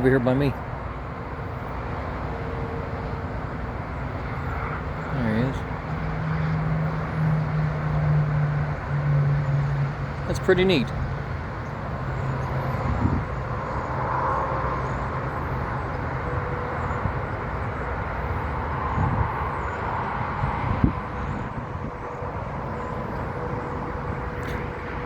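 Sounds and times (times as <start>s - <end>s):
distant road traffic: 0.0s - 25.0s
wind: 0.0s - 25.0s.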